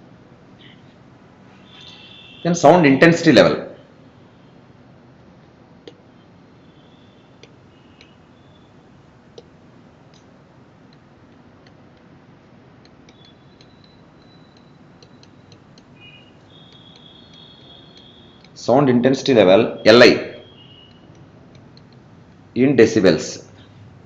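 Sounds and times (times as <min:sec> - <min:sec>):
room hiss: 0:00.0 - 0:24.0.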